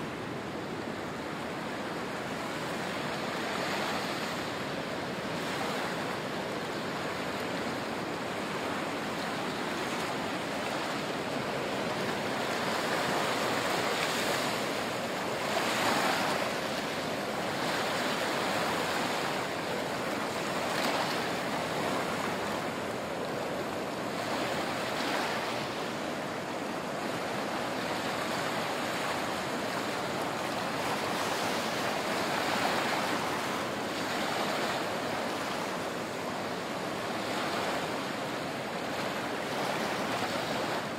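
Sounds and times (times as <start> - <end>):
small waves breaking on shore: 0.0 - 40.9.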